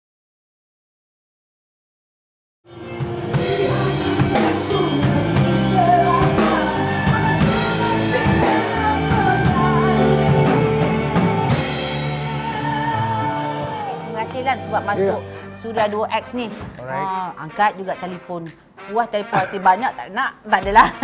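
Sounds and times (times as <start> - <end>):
rock band music: 2.7 - 20.0.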